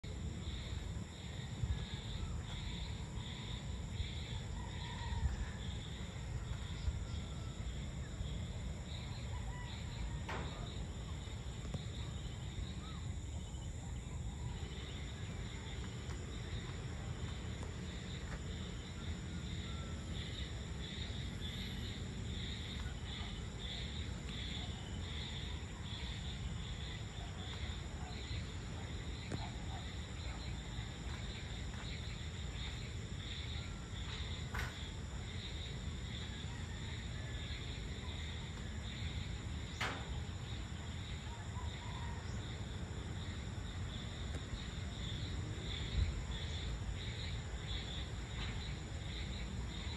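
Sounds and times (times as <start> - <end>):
insects shrilling and chirping: 0.0 - 49.9.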